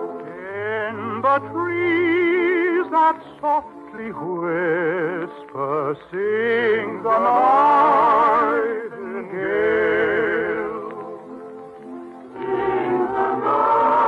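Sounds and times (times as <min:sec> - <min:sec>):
musical accompaniment: 0:00.0 - 0:14.0
operatic singing with vibrato: 0:00.2 - 0:11.7, 0:12.3 - 0:14.0.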